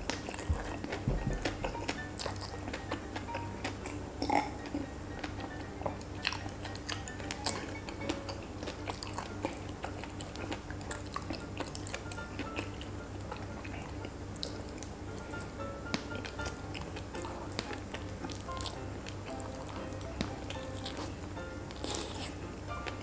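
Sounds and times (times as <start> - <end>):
background music: 0.0 - 23.0
close chewing with wet mouth clicks: 0.0 - 23.0.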